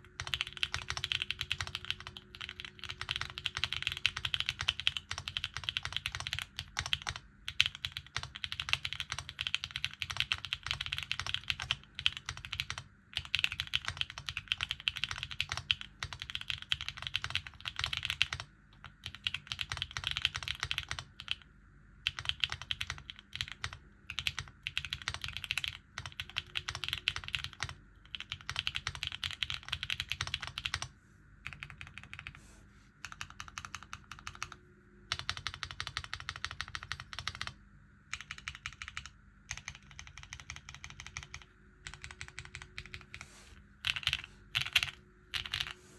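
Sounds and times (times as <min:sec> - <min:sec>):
typing on mechanical keyboard: 0:00.0 - 0:32.4, 0:33.0 - 0:43.2, 0:43.8 - 0:45.8.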